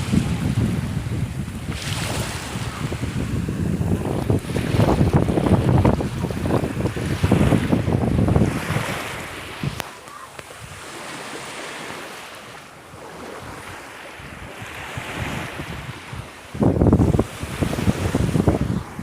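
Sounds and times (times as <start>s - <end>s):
wind buffeting microphone: 0.0s - 11.9s, 12.9s - 19.0s
sea waves: 0.0s - 19.0s.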